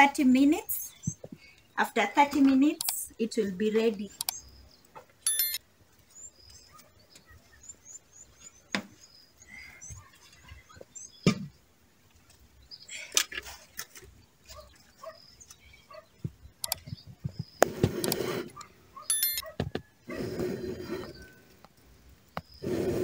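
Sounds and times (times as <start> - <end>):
small birds twittering: 0.0 - 23.0.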